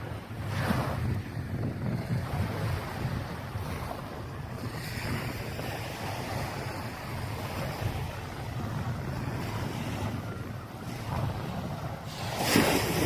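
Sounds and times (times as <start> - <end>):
waves washing on sand: 0.0 - 13.0
wind buffeting microphone: 0.0 - 13.0.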